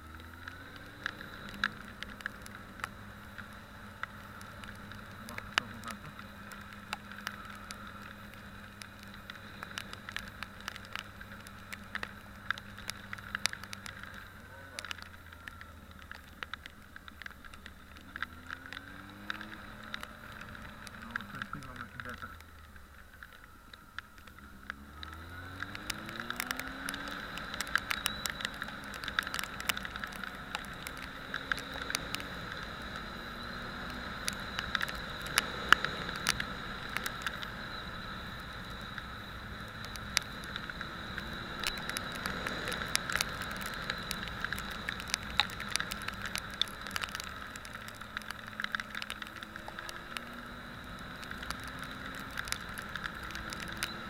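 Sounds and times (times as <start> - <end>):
crackles and clicks: 0.0 - 54.0.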